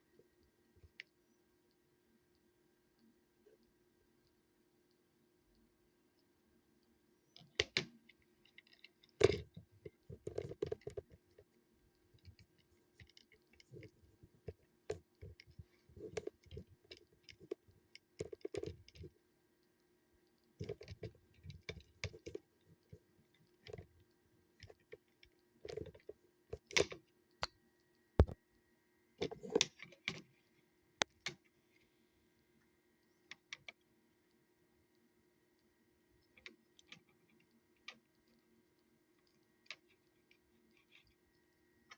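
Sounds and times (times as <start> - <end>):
faint steady hum: 0.0 - 41.9
small parts clicking and tapping: 0.2 - 28.4, 29.2 - 41.9.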